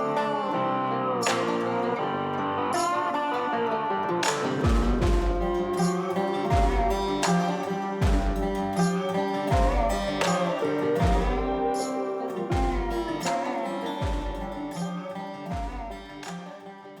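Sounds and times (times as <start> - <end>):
background music with guitar and beat: 0.0 - 17.0.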